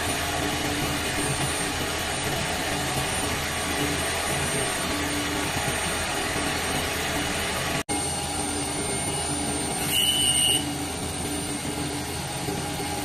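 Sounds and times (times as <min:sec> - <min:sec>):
machine tool whirring: 0:00.0 - 0:13.0.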